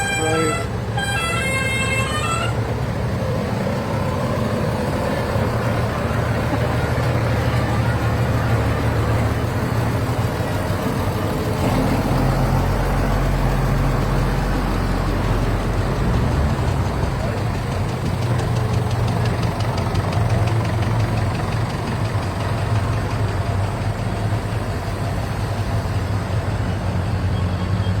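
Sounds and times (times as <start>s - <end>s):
tractor engine humming: 0.0s - 28.0s.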